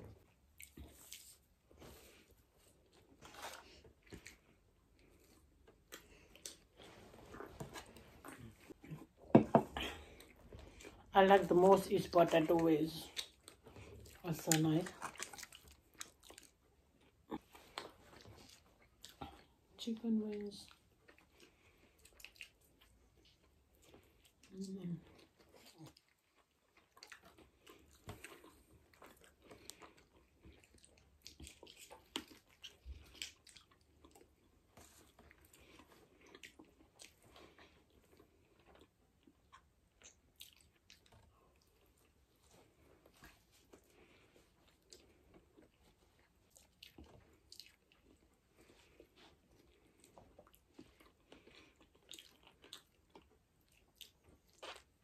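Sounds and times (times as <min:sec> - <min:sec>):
person chewing: 0:00.0 - 0:11.1, 0:13.0 - 0:19.7, 0:20.7 - 0:55.0.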